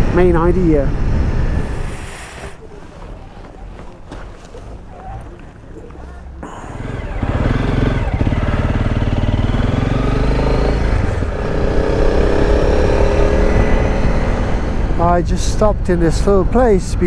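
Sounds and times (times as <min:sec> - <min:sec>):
motorcycle engine accelerating: 0:00.8 - 0:15.2.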